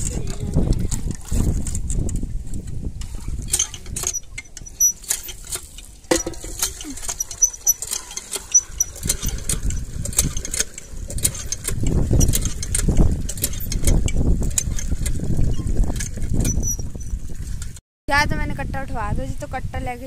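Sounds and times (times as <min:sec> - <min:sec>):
hand pump clicks and clanks: 0:00.0 - 0:17.8
pump handle squeaks: 0:00.0 - 0:17.8.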